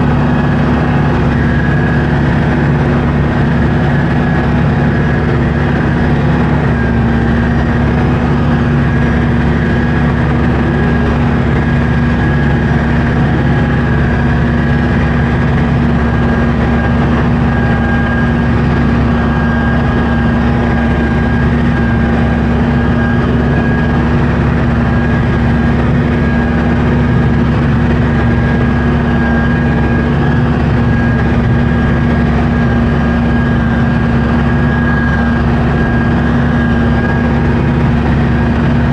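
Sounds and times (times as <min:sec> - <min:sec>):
high steady whine: 0:00.0 - 0:38.9
tractor engine drone: 0:00.0 - 0:38.9.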